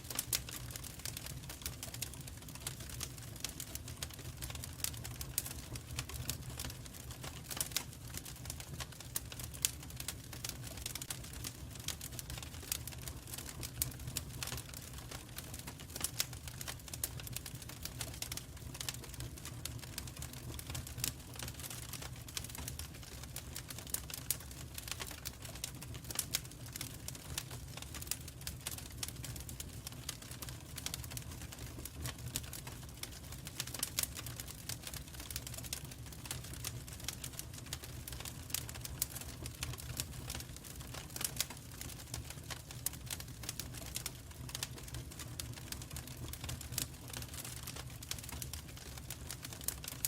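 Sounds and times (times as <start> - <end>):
fire crackling: 0.0 - 50.0.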